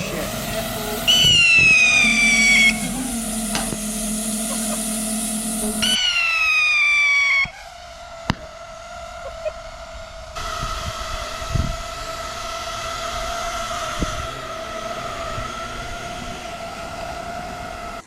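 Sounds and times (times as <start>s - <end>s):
firework crack: 0.0s - 18.0s
whistling firework screeching: 0.0s - 18.0s.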